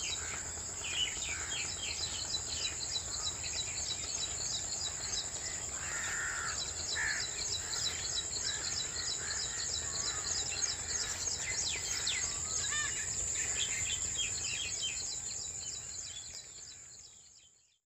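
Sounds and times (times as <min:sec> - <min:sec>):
birds chirping and calling: 0:00.0 - 0:17.0
high-pitched insect drone: 0:00.0 - 0:17.2.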